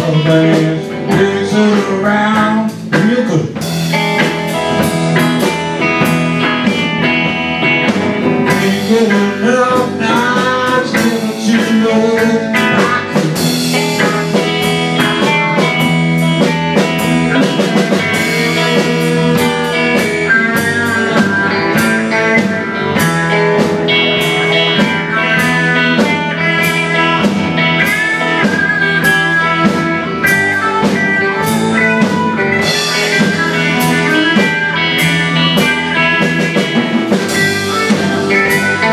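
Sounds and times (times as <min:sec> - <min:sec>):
blues band playing: 0:00.0 - 0:38.9
lead guitar gliding notes: 0:03.6 - 0:38.9.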